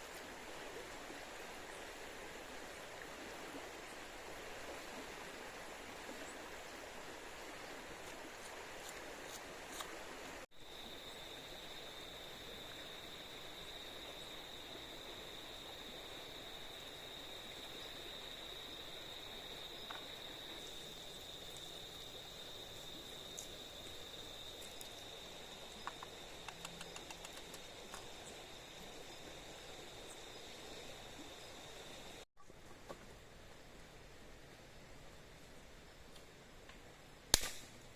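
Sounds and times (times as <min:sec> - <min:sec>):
river water flowing: 0:00.0 - 0:36.4.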